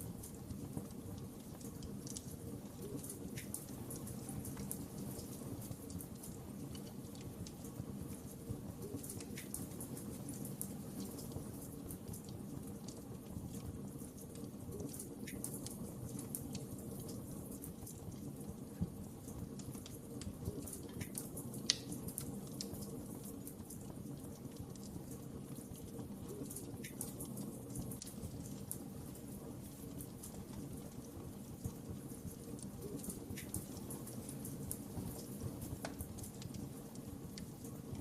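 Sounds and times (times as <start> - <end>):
fire crackling and popping: 0.0 - 38.0
wood fire burning: 0.0 - 38.0.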